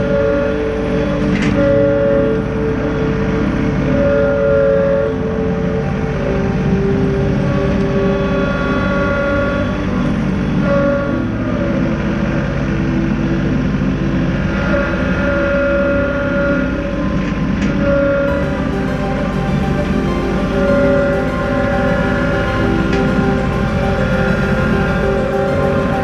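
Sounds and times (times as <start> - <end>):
hydraulic whine: 0.0 - 26.0.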